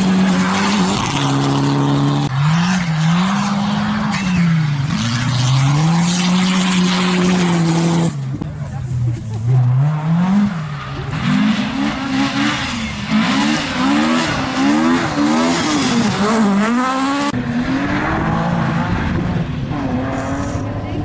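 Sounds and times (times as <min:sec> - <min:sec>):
rally car engines at full throttle: 0:00.0 - 0:21.0.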